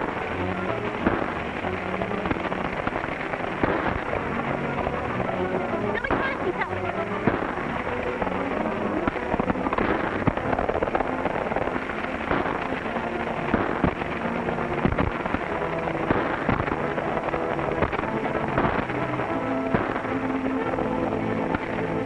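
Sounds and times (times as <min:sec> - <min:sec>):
horses' hooves pounding: 0:00.0 - 0:20.6
sharp cracks: 0:00.0 - 0:22.0.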